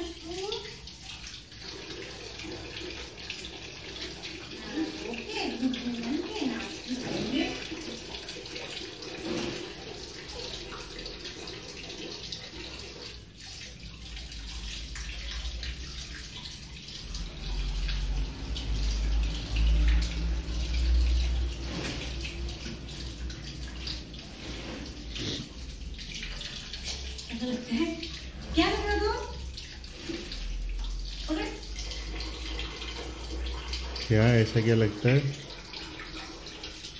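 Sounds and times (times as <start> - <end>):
water running into bucket: 0.0 - 36.9.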